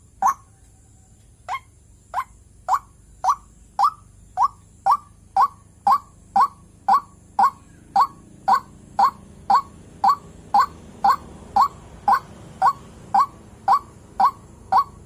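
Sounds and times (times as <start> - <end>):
waterhen calling: 1.5 - 15.0.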